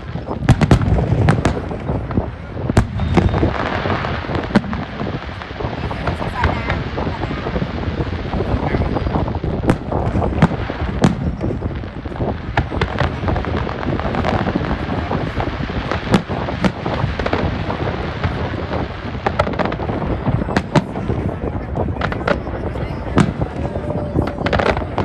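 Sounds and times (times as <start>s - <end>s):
distant fireworks rumble: 0.0s - 25.0s
firework cracks and bangs: 0.0s - 25.0s.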